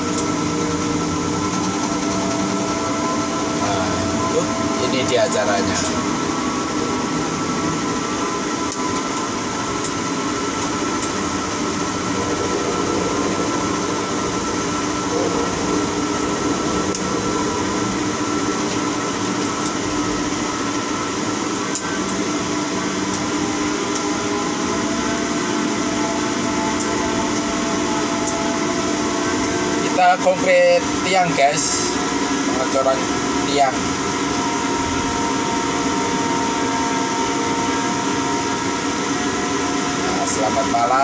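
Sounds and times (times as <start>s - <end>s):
crane mechanical hum: 0.0s - 41.0s
hoist whine: 0.0s - 41.0s.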